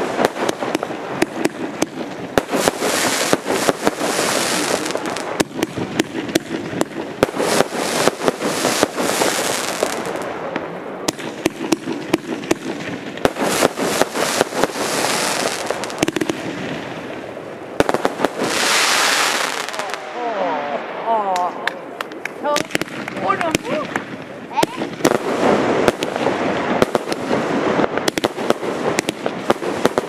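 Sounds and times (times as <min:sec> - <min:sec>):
fireworks bangs and pops: 0:00.0 - 0:20.2, 0:21.2 - 0:30.0
fireworks hiss and crackle: 0:00.0 - 0:30.0.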